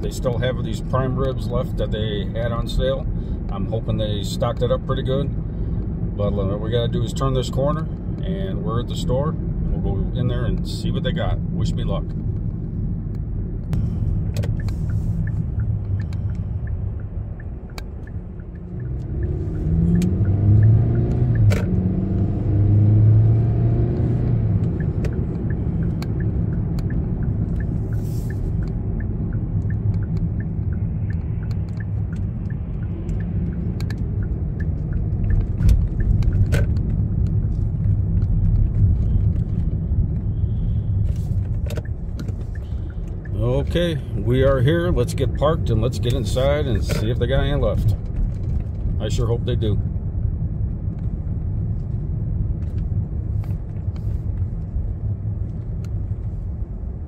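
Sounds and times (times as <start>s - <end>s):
turn signal ticking: 0.0s - 57.0s
car engine accelerating: 6.2s - 56.9s.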